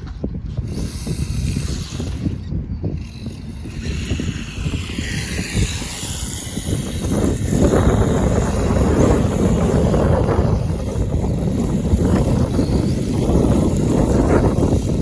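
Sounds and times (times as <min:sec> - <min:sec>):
wind on microphone: 0:00.0 - 0:15.0
toy car motor whining: 0:00.5 - 0:15.0.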